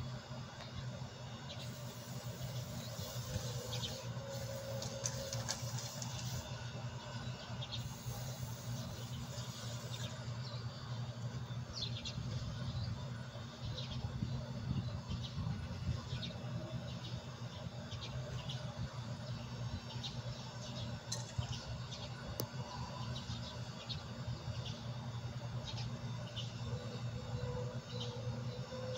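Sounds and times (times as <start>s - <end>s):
refrigeration compressor humming: 0.0s - 28.9s.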